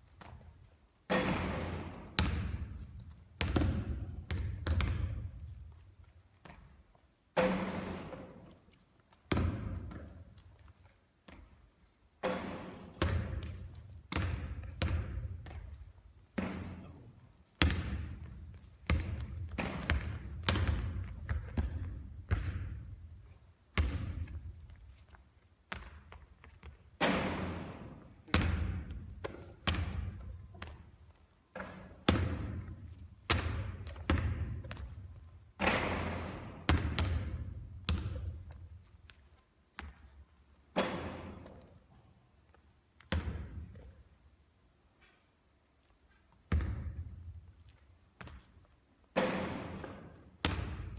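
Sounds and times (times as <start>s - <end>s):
basketball bouncing on court: 0.1s - 11.6s, 12.2s - 41.8s, 43.0s - 44.0s, 46.5s - 50.9s.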